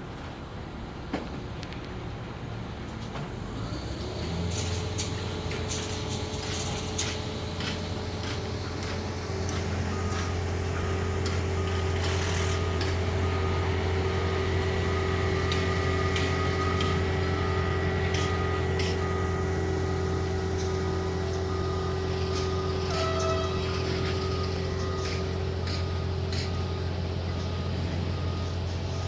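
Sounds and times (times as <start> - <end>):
heavy engine running: 0.0 - 29.0.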